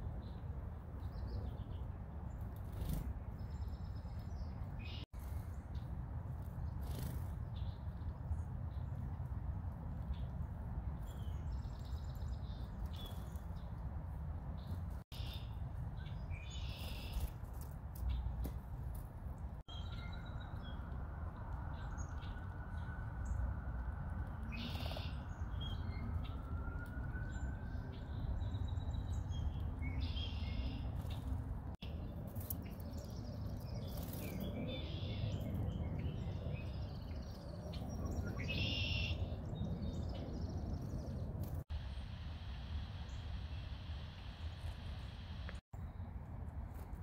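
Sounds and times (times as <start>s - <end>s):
songbirds chirping: 0.0s - 46.1s.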